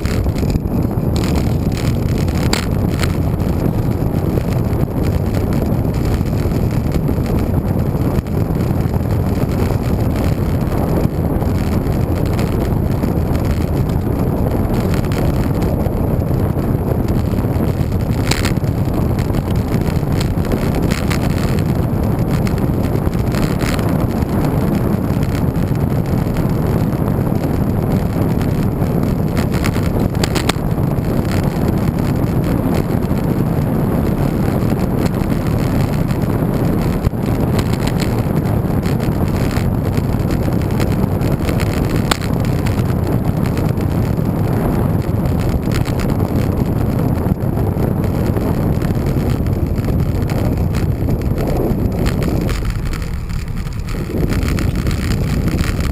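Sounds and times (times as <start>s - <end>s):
wind rumble on microphone: 0.0s - 55.9s.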